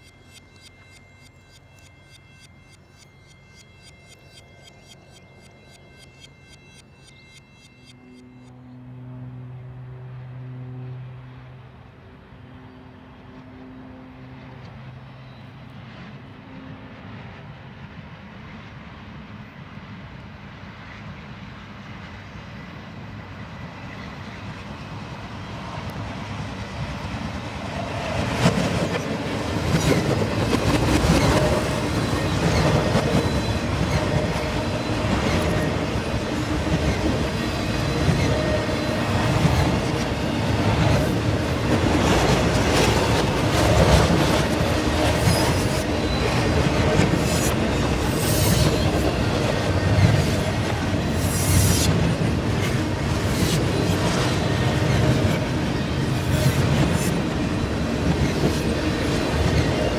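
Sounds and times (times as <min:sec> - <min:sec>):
freight train passing in reverse: 0:00.0 - 0:59.9.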